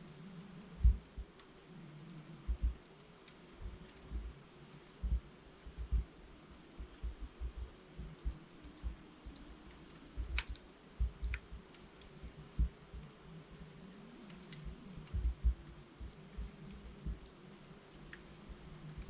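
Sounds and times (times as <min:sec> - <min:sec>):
logs crackling in a fireplace: 0:00.0 - 0:19.0.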